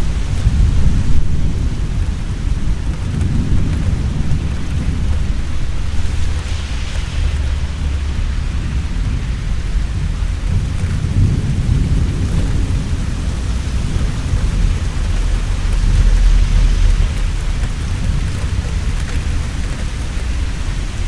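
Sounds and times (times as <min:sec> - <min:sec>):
heavy rain: 0:00.0 - 0:21.0
rolling thunder: 0:00.0 - 0:21.0.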